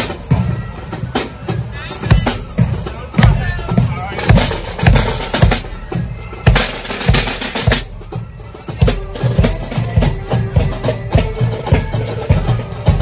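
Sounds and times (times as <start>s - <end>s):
bass drum marching beat: 0.0s - 13.0s
faint band tune: 0.0s - 13.0s
rattling side drums: 0.0s - 13.0s.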